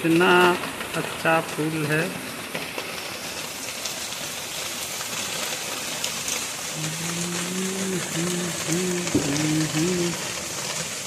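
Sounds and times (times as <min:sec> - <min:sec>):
heavy rain on leaves and roofs: 0:00.0 - 0:11.0.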